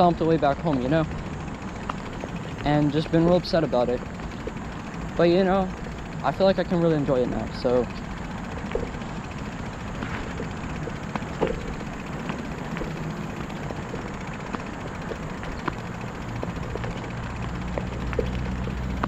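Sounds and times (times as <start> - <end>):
light clicks and ticks: 0.0 - 19.0
low engine drone: 0.0 - 19.0.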